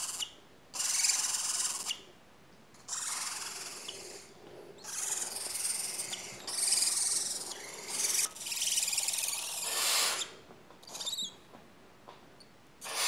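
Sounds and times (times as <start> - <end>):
owl chicks hissing begging calls: 0.0 - 2.1, 2.9 - 11.4.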